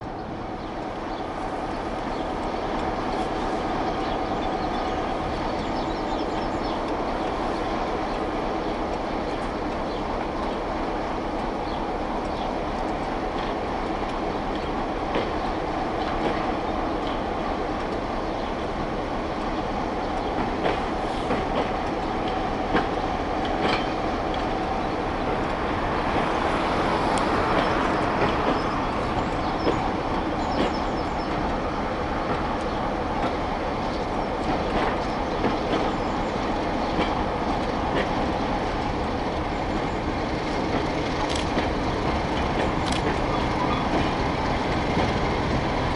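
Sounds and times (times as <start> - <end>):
diesel locomotive engine drone: 0.0 - 45.9
wheels clicking over rail joints: 1.2 - 45.9.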